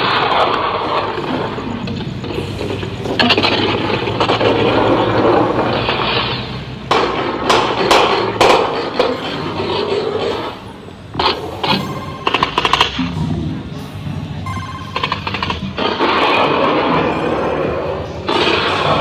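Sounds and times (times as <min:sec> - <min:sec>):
electronic noise music: 0:00.0 - 0:19.0.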